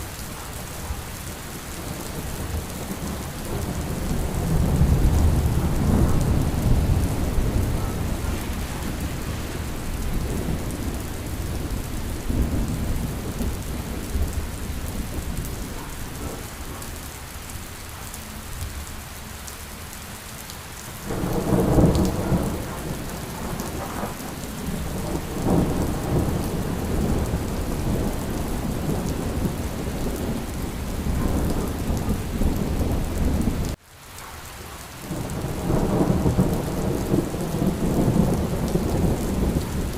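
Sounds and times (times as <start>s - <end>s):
steady rain: 0.0s - 39.9s
rolling thunder: 1.8s - 16.8s, 21.0s - 33.8s, 35.1s - 39.9s.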